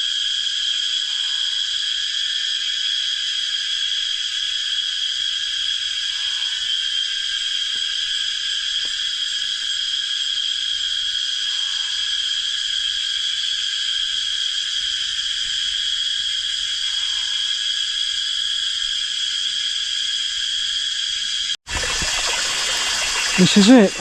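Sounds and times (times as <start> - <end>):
jungle insects droning: 0.0 - 24.0.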